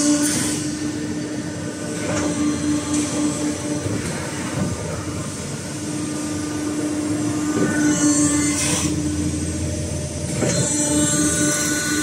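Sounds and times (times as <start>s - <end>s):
hydraulic pump motor hum: 0.0s - 12.0s.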